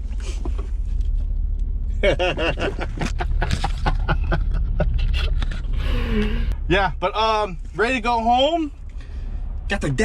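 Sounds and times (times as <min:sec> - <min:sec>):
vehicle interior rumble: 0:00.0 - 0:10.0.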